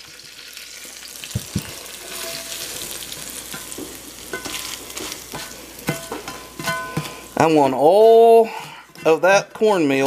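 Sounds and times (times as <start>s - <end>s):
hot oil sizzling in a skillet: 0.0s - 10.0s
metal spatula scraping a pan: 1.9s - 10.0s.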